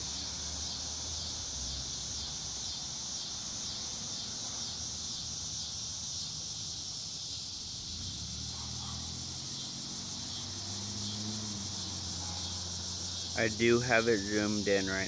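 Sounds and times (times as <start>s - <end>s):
insects chorusing: 0.0s - 15.0s.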